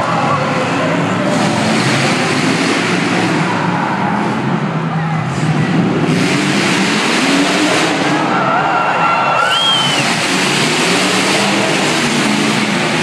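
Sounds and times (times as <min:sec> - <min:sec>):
car engines revving: 0:00.0 - 0:13.0
crowd din: 0:00.0 - 0:13.0.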